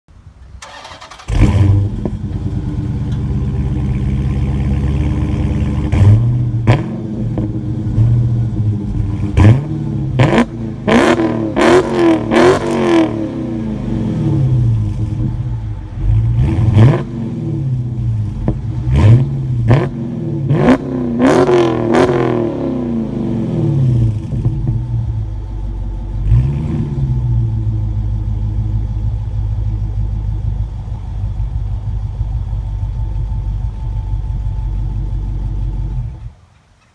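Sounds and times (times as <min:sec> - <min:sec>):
car engine idling: 0:00.1 - 0:36.9
car engine starting: 0:00.2 - 0:36.5
car engine revving: 0:00.6 - 0:36.3.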